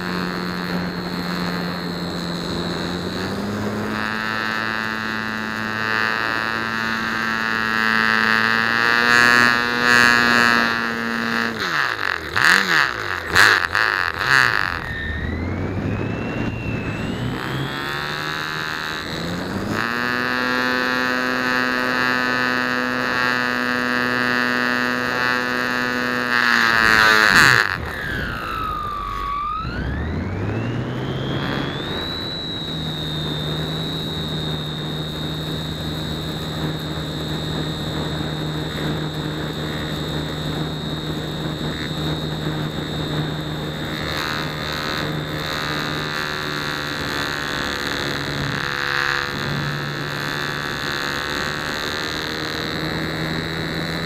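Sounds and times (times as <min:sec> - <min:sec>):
model plane motor whine: 0:00.0 - 0:54.0.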